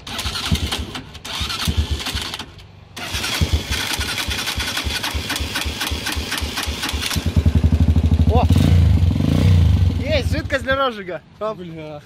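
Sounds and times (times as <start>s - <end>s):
small motorcycle engine sputtering: 0.0s - 9.8s.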